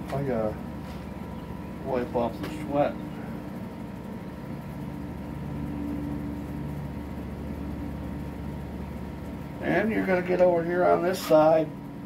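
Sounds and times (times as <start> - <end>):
mechanical hum: 0.0 - 12.0
faint high whine: 0.2 - 11.9.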